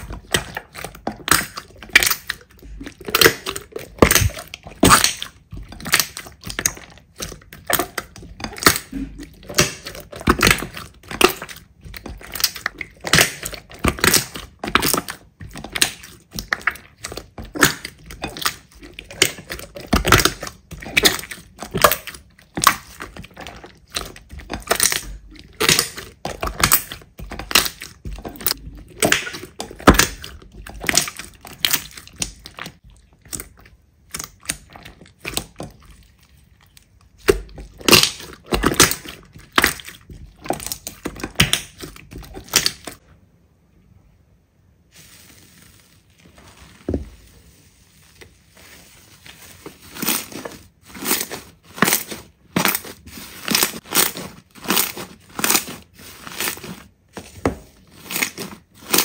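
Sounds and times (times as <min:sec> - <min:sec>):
slime crackling and popping: 0:00.0 - 0:35.8, 0:36.8 - 0:43.0, 0:49.6 - 0:56.9, 0:57.8 - 0:59.0.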